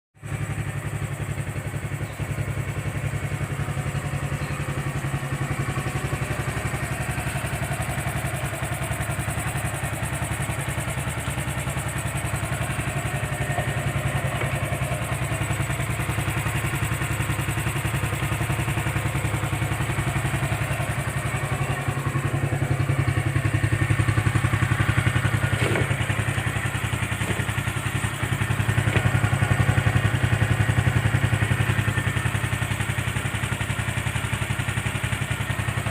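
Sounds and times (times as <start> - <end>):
motorcycle engine idling: 0.2 - 35.9.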